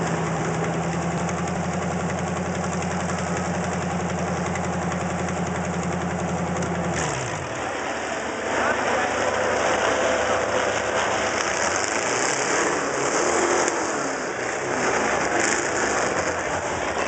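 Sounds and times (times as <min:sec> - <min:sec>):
truck engine idling: 0:00.0 - 0:12.9, 0:14.2 - 0:17.0.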